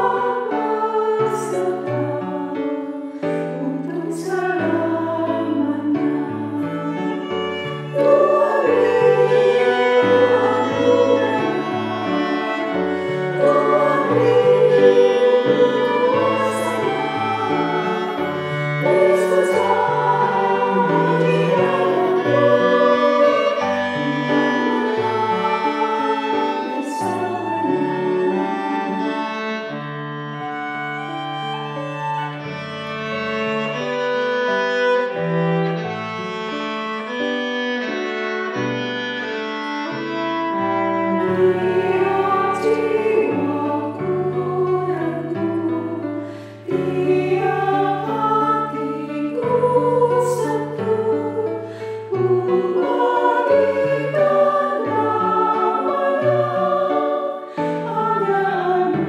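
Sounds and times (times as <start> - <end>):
women's choir singing a hymn: 0.0 - 35.7, 40.6 - 59.0
cello and violin playing: 0.0 - 59.0.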